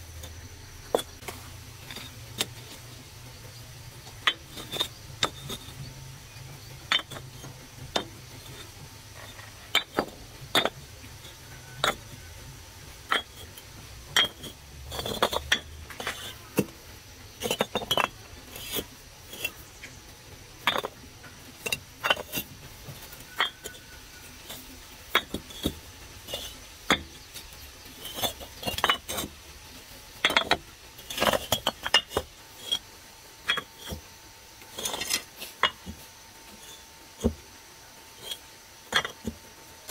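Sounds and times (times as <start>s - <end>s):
bricks clinking together: 0.2s - 37.5s, 38.1s - 39.9s.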